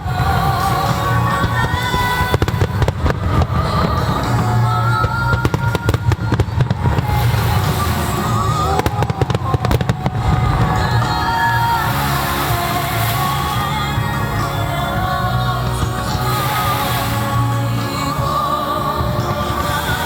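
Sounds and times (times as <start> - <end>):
fireworks cracking and booming: 0.0 - 20.0
music from loudspeakers: 0.0 - 20.0.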